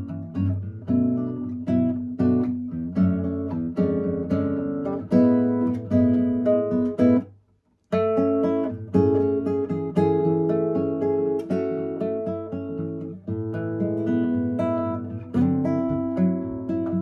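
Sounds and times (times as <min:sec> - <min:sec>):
classical guitar samba: 0:00.0 - 0:17.0.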